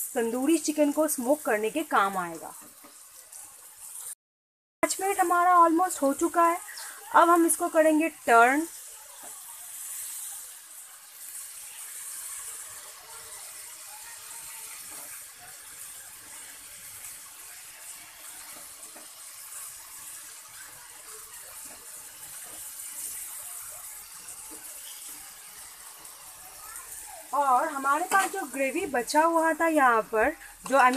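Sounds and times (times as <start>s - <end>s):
chicken sizzling in hot oil: 0.0s - 4.2s, 4.8s - 30.9s.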